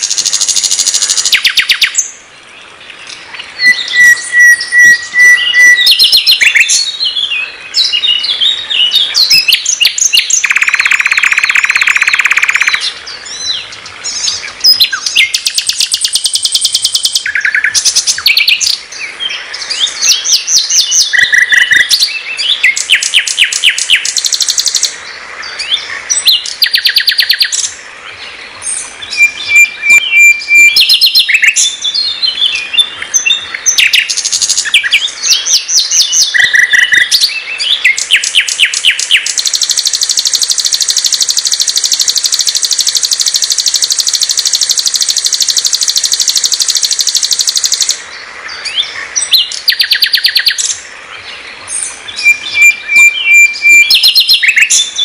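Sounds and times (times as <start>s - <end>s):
nightingale singing trills: 0.0s - 55.0s.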